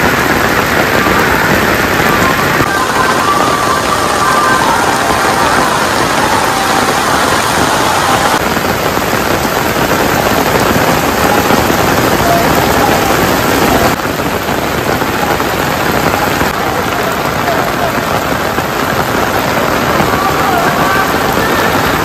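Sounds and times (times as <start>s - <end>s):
heavy rain on pavement: 0.0s - 22.0s.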